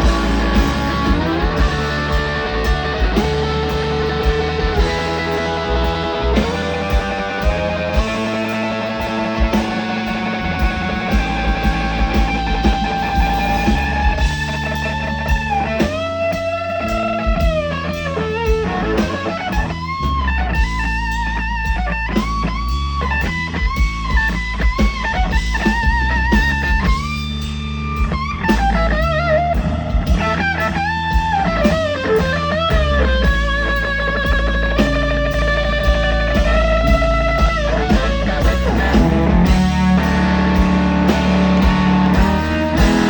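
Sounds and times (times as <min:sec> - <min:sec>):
bass guitar: 0:00.0 - 0:43.0
drums: 0:00.0 - 0:43.0
electric blues guitar solo: 0:00.0 - 0:43.0.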